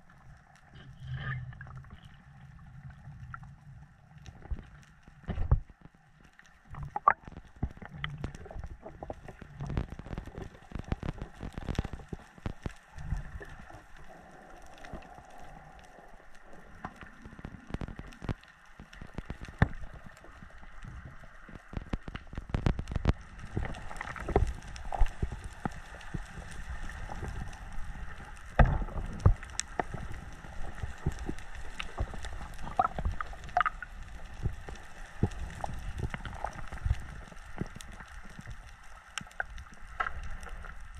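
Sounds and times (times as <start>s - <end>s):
crackling clicks: 0.0s - 40.9s.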